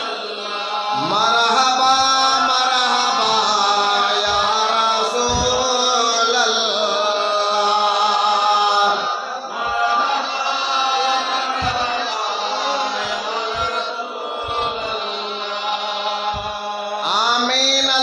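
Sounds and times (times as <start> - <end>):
person chanting: 0.0 - 18.0.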